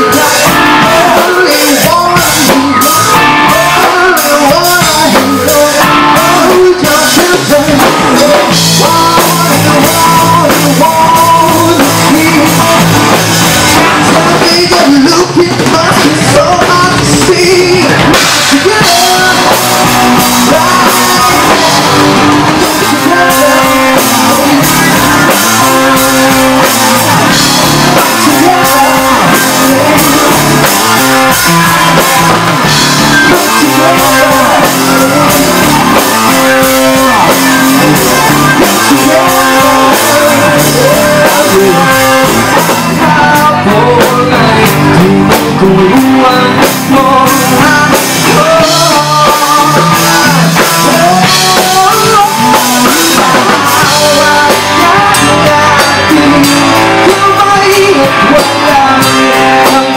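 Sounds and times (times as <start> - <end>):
drum kit: 0.0 - 59.9
guitar: 0.0 - 59.9
lead vocal singing: 0.0 - 59.9
live rock band playing: 0.0 - 59.9.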